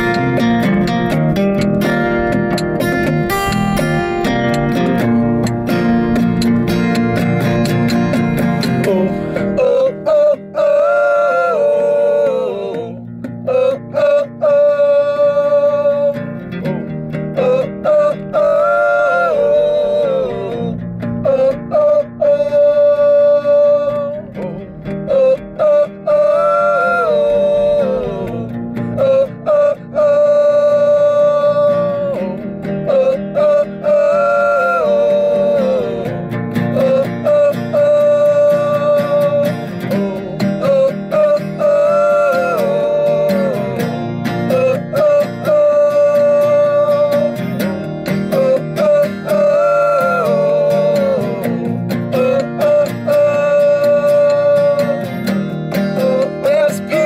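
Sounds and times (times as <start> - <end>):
acoustic guitar strummed: 0.0 - 57.0
men singing long notes: 8.4 - 16.6, 17.2 - 57.0.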